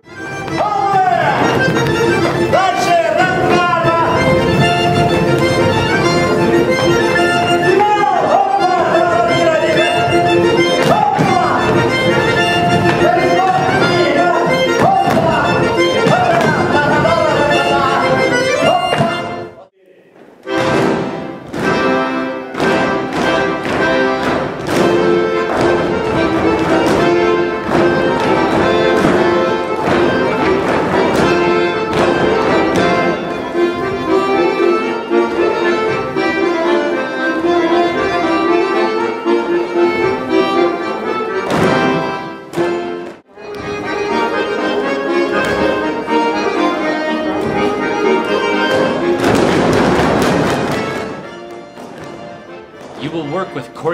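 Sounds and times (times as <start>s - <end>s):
accordion folk dance music: 0.0s - 53.9s.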